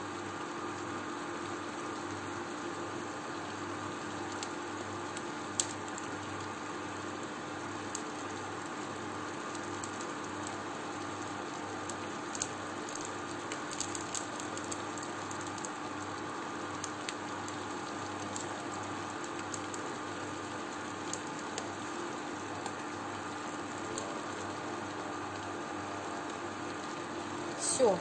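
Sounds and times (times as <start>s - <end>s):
faint steady hum: 0.0s - 28.0s
food sizzling in a frying pan: 0.0s - 28.0s.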